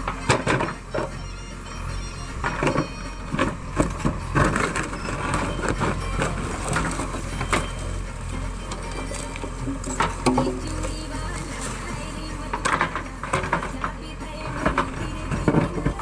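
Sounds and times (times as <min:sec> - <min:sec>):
knocks and scraping: 0:00.0 - 0:16.0
low engine rumble: 0:00.0 - 0:16.0.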